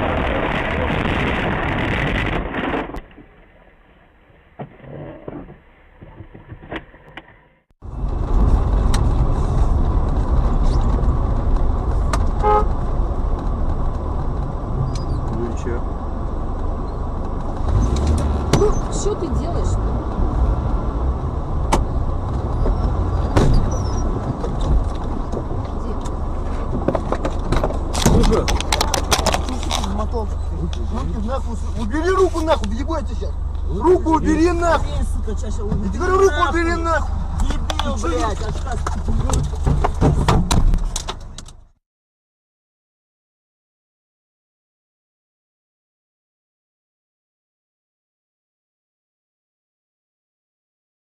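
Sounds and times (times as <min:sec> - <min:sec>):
car rumbling on road: 0:00.0 - 0:41.8.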